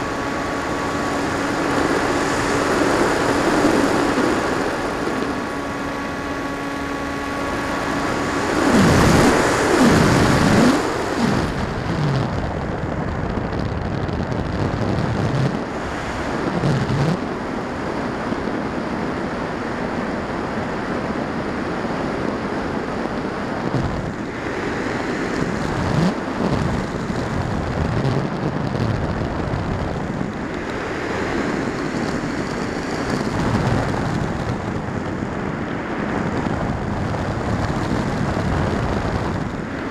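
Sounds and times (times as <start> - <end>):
rushing airflow on microphone: 0.0 - 39.9.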